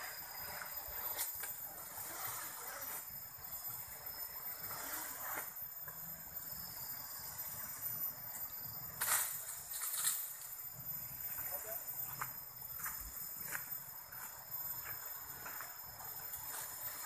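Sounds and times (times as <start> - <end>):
constant hiss: 0.0 - 17.0
faint high insect tones: 0.0 - 17.0.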